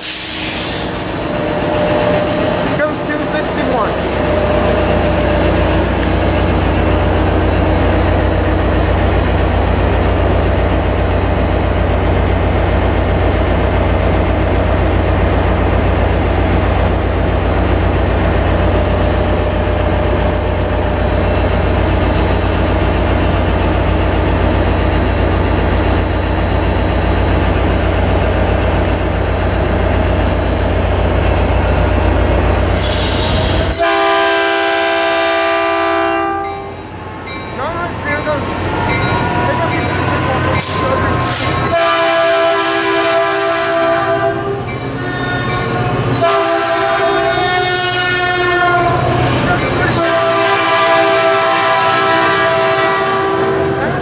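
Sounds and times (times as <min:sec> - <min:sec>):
diesel locomotive idling: 0:00.0 - 0:54.0.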